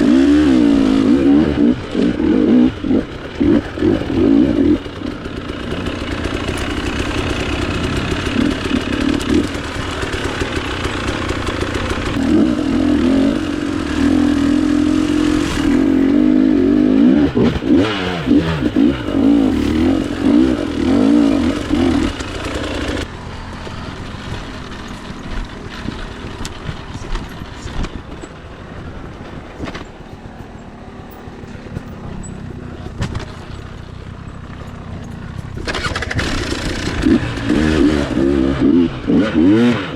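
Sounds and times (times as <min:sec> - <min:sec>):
dirt bike engine revving: 0:00.0 - 0:28.2, 0:35.4 - 0:39.9.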